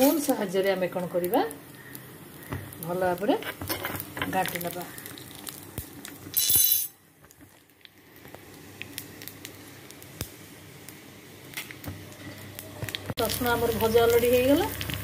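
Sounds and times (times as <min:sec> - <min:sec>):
seeds sizzling in hot oil: 0:00.0 - 0:15.0.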